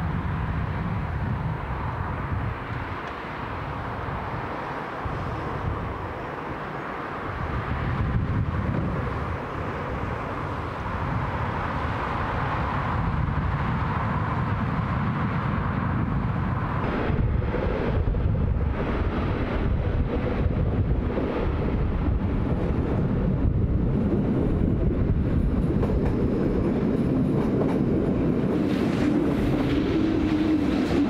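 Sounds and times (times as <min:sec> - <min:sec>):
train rumble and rushing: 0:00.0 - 0:31.0
wind buffeting microphone: 0:00.0 - 0:31.0.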